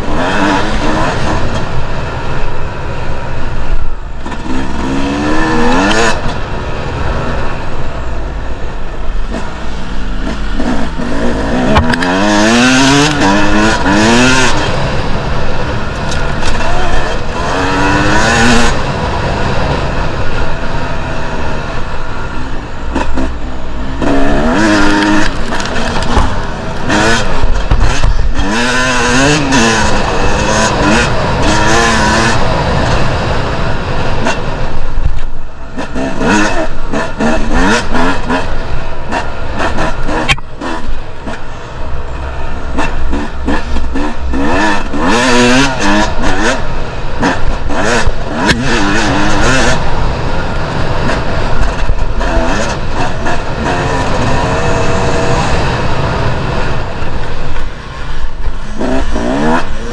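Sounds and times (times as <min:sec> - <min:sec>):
dirt bike engine revving: 0:00.0 - 0:59.9
rushing noise: 0:00.0 - 0:59.9.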